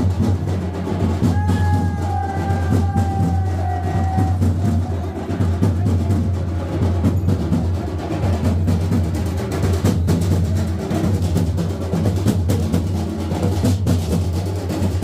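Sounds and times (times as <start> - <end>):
drums beating over deep boom: 0.0 - 15.0.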